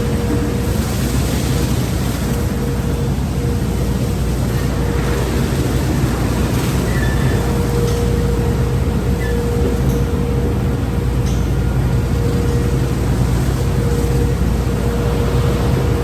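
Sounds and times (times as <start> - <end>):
car wash machinery rumble: 0.0 - 16.0
constant hum: 0.0 - 16.0.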